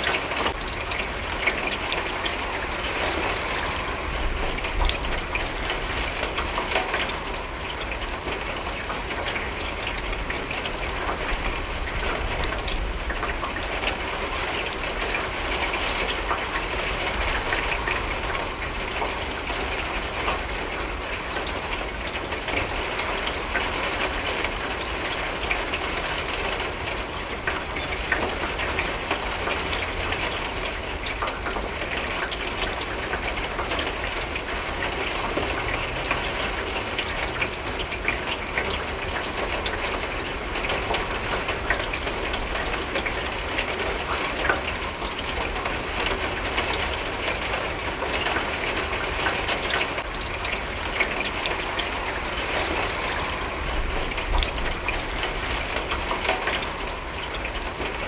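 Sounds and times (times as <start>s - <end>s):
rain pattering on a window: 0.0s - 58.0s.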